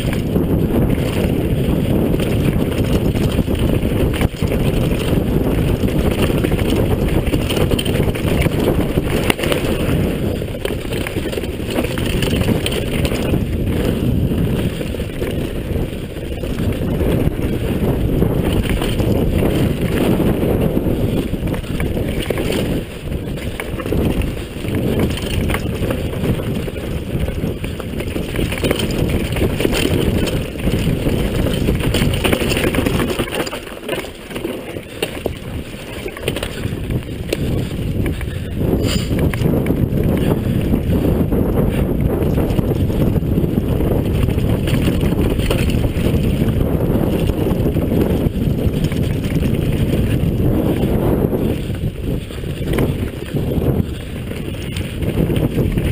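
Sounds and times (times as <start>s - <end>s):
bike knocking: 0.0s - 55.9s
mountain bike rattling on dirt: 0.0s - 55.9s
wind buffeting microphone: 0.0s - 55.9s.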